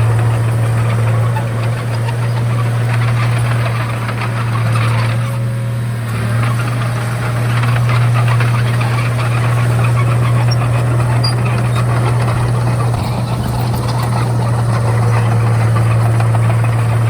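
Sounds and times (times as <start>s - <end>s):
bulldozer diesel engine humming: 0.0s - 17.0s
rattling and crackling: 0.0s - 17.0s.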